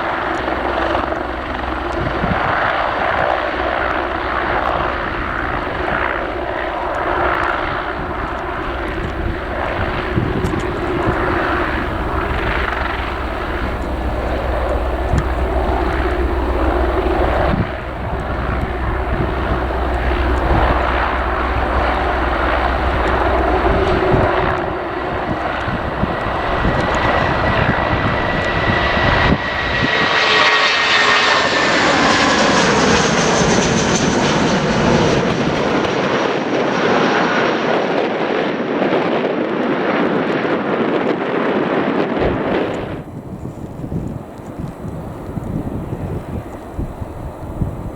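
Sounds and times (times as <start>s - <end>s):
high jet engine whine: 0.0s - 47.9s
jet engines deep low hum: 0.0s - 47.9s.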